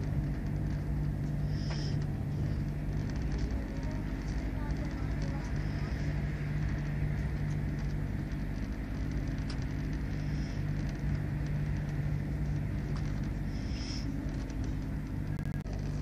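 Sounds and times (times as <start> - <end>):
constant hum: 0.0 - 16.0
train rumble inside carriage: 0.0 - 16.0.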